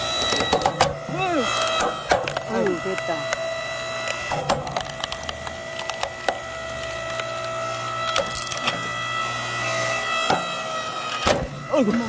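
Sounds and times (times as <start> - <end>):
wood cracking and splintering: 0.0 - 3.4, 4.0 - 12.0
log splitter humming: 0.0 - 12.0.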